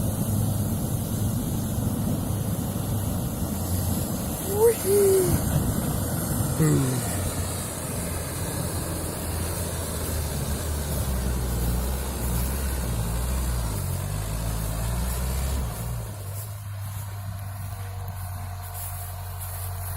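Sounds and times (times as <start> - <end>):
all-terrain vehicle engine running: 0.0 - 19.9.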